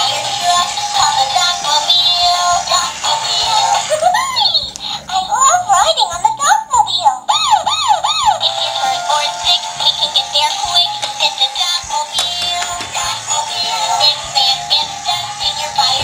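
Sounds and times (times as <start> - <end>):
toy electronic song with synthetic vocals: 0.0 - 16.0.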